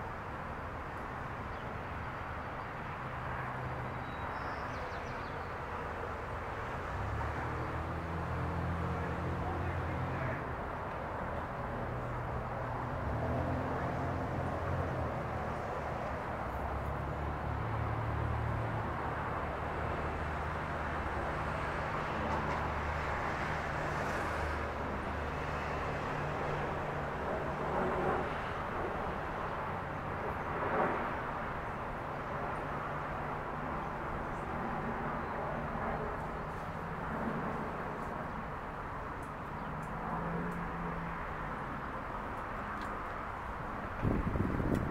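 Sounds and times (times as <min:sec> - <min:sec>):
distant locomotive engine hum: 0:00.0 - 0:44.9.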